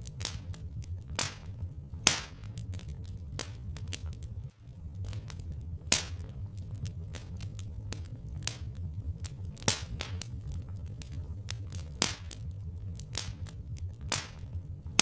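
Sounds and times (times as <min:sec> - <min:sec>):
steady low rumble: 0:00.0 - 0:15.0
wood fire crackling: 0:00.0 - 0:15.0.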